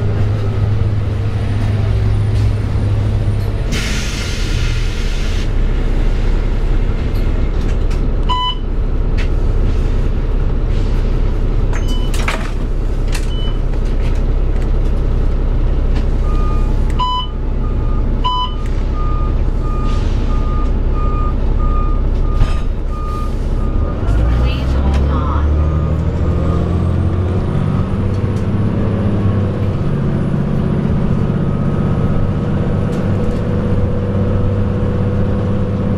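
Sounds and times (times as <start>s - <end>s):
bus diesel engine running: 0.0s - 35.9s.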